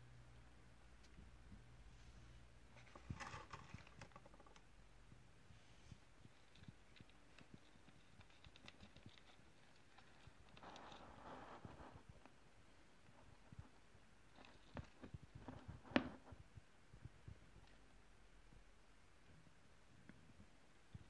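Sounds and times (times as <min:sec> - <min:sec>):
faint clicks and scratches: 0:01.0 - 0:18.6.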